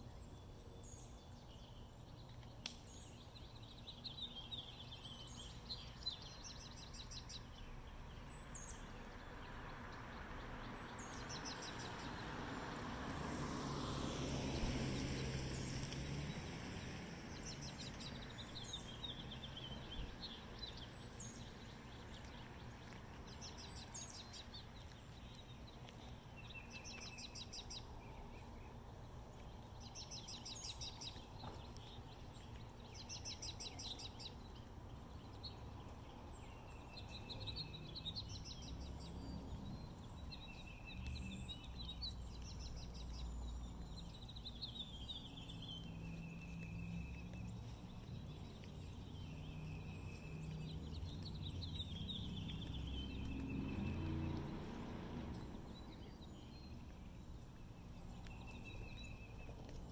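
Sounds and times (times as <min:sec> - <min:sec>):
faint outdoor background noise: 0:00.0 - 0:59.9
songbirds trilled chirps: 0:00.0 - 0:59.9.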